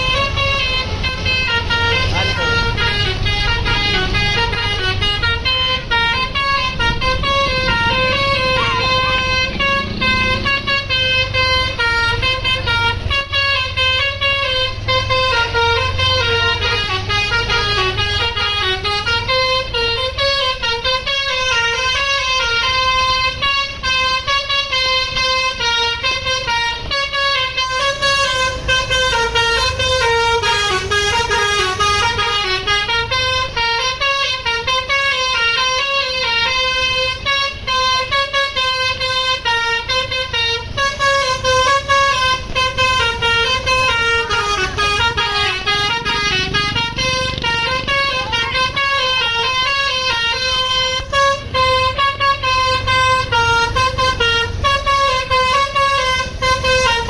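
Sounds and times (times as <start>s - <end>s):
bus horn playing a melody: 0.0s - 57.0s.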